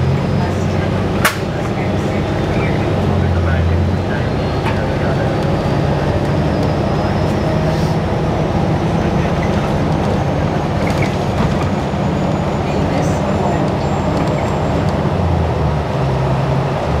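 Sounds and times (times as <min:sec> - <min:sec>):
bus drivetrain and road rumble: 0:00.0 - 0:17.0.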